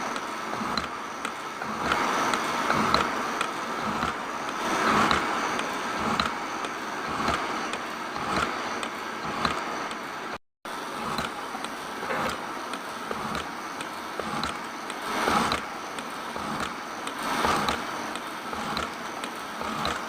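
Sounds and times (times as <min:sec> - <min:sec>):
tool scraping metal: 0:00.0 - 0:10.1, 0:10.8 - 0:20.0.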